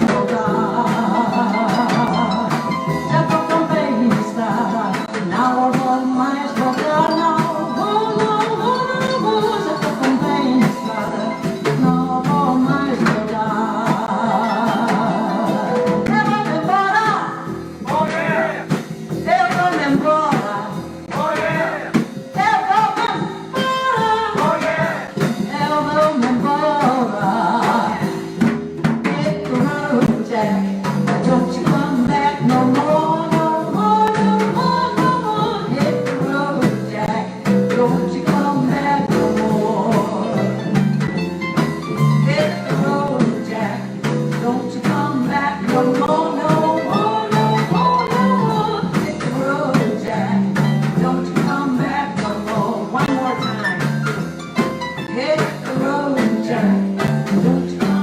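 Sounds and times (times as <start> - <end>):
jazz band playing: 0.0 - 58.0.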